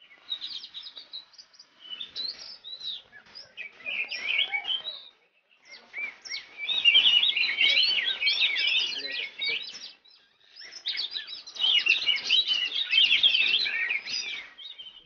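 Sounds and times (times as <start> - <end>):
bird singing chirps and whistles: 0.0 - 15.0.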